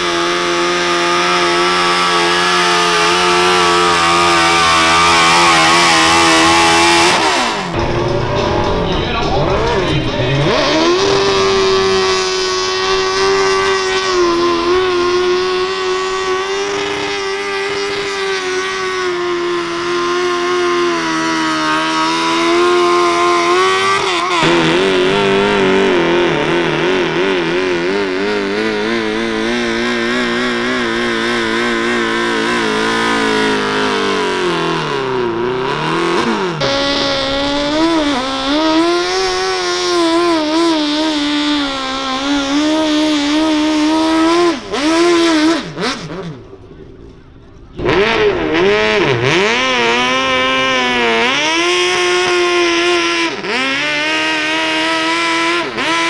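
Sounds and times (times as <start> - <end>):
tractor engines revving hard: 0.0 - 56.0.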